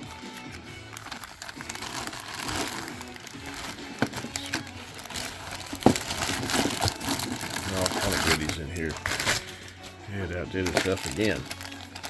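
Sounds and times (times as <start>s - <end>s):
faint background music: 0.0s - 12.0s
packaging crinkling: 0.0s - 12.0s.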